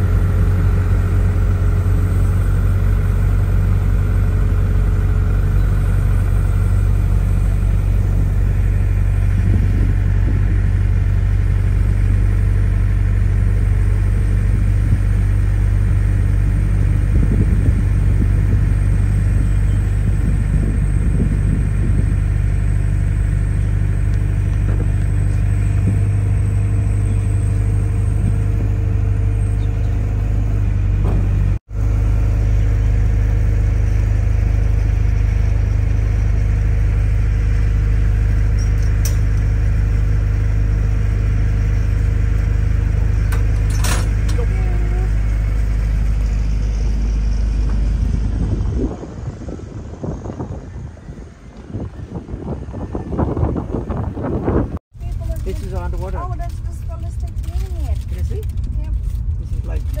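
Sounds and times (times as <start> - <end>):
low engine rumble: 0.0 - 60.0.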